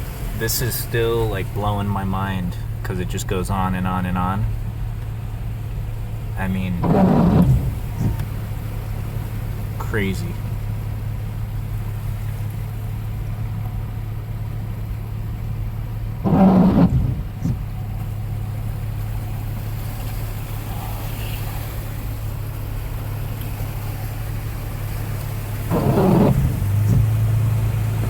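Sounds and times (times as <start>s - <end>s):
car engine drone inside cabin: 0.0s - 28.0s.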